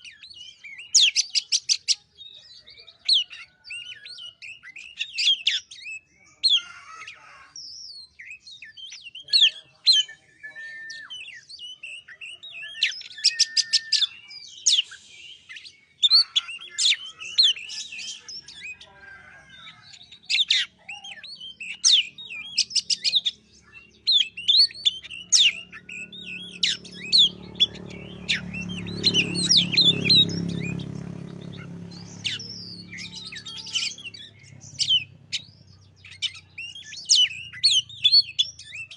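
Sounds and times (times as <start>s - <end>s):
bird singing whistles and trills: 0.0s - 6.6s, 7.6s - 18.9s, 19.5s - 38.9s.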